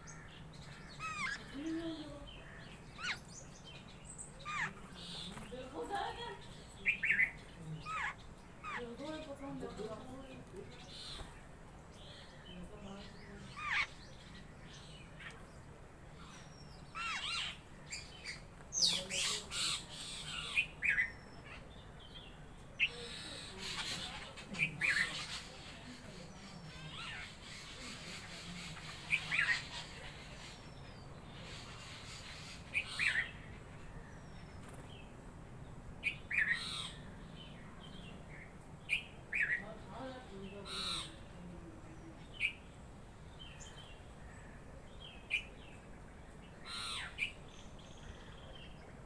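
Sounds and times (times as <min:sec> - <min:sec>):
birds squawking and chirping: 0:00.0 - 0:49.0.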